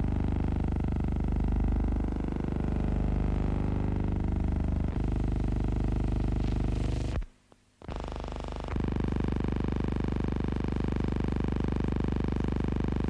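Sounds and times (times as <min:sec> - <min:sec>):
projector hum and buzz: 0:00.0 - 0:11.2.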